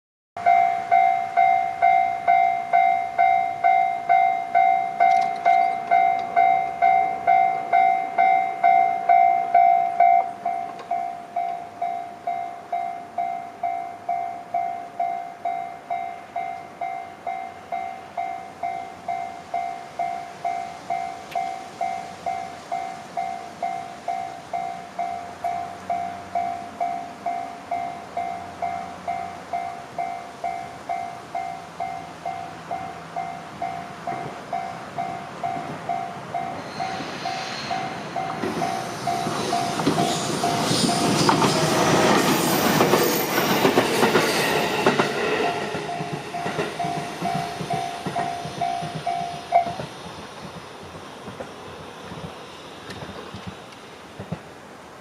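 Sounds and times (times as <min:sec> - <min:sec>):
level crossing warning bell ringing: 0:00.4 - 0:37.1, 0:37.7 - 0:49.9.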